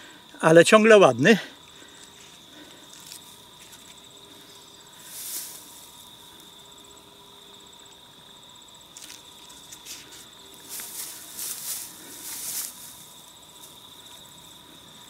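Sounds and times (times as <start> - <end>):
high pulsing insect call: 0.0 - 15.0
insects trilling: 0.0 - 15.0.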